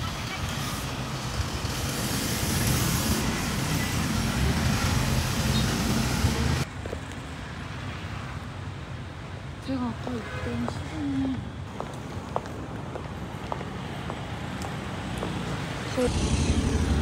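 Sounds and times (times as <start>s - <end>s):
passing motor vehicles rumble: 0.0s - 8.4s, 9.0s - 17.0s.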